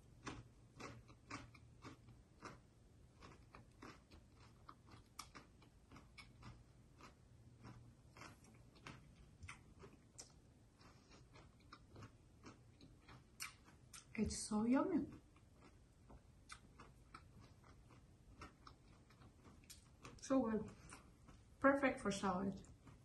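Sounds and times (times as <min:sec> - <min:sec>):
chewing crunchy raw vegetables: 0:00.0 - 0:23.0.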